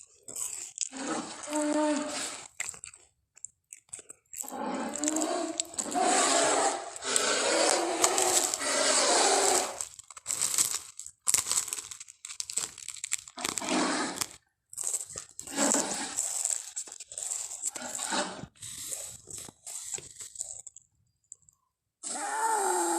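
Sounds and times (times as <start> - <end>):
rough crunching crackling noise: 0.0 - 21.5.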